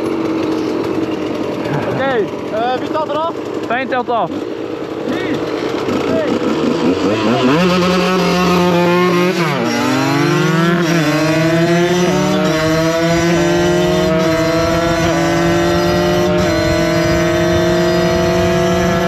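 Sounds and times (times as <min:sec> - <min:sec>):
motorcycle accelerating hard: 0:00.0 - 0:19.0.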